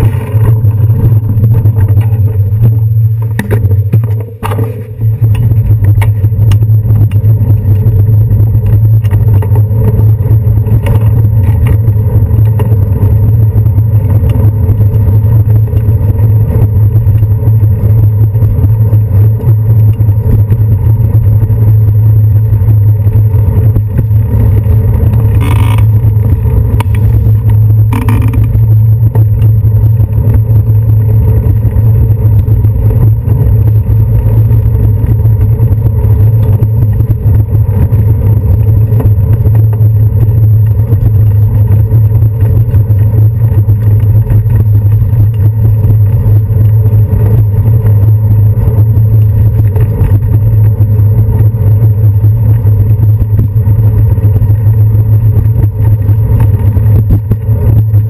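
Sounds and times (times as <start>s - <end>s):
bicycle rolling over paving stones: 0.0s - 58.0s
wind noise: 0.0s - 58.0s.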